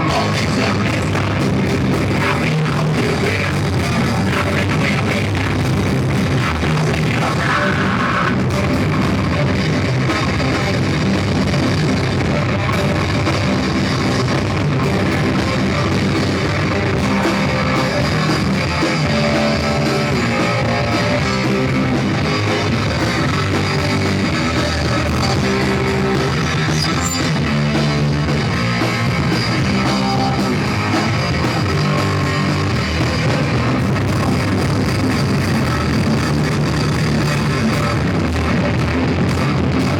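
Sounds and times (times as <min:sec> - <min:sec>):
live punk metal band: 0:00.0 - 0:39.9.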